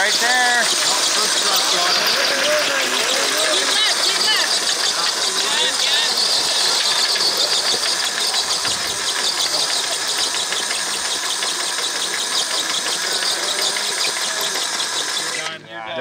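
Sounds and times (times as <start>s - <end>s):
electric motor whining: 0.0s - 15.6s.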